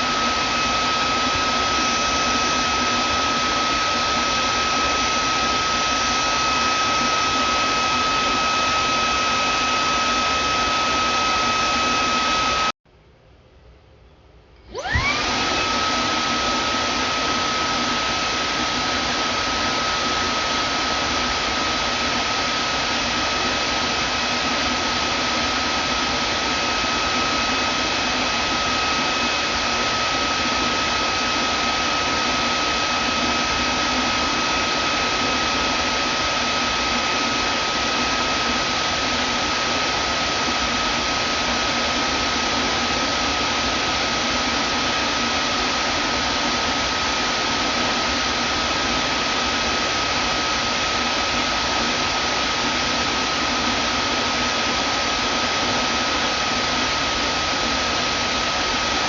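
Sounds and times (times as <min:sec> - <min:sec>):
vacuum cleaner running: 0:00.0 - 0:12.8, 0:14.6 - 0:59.0.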